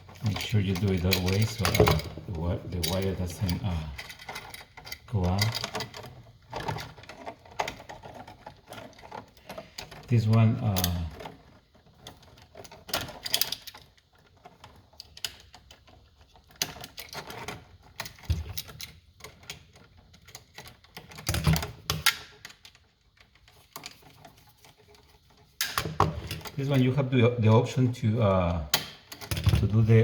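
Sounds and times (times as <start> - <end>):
clicks and scrapes of wires: 0.0 - 30.0.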